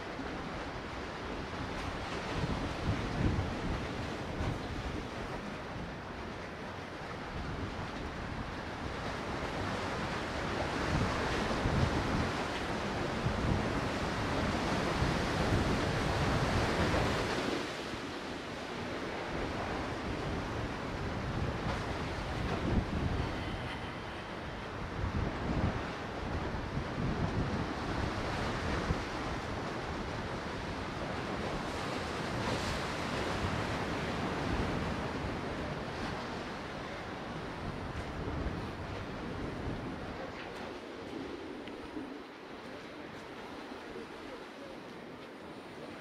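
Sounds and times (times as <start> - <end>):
sea surf washing against breakwater: 0.0 - 46.0
wind buffeting microphone: 0.0 - 46.0.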